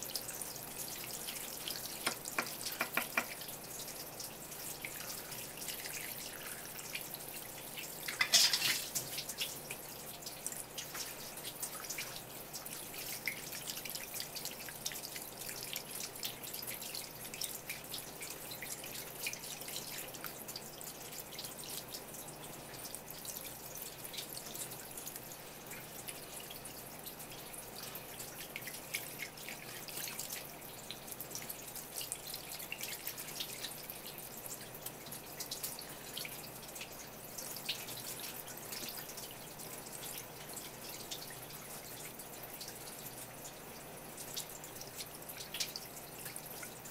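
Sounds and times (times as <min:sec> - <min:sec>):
tap water splashing and dripping: 0:00.0 - 0:46.9.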